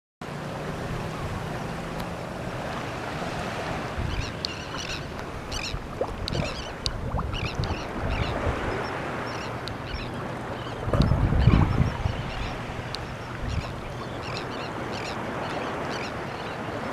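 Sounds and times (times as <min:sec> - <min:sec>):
wind and water rushing: 0:00.2 - 0:16.9
seabirds calling harshly: 0:01.0 - 0:16.9.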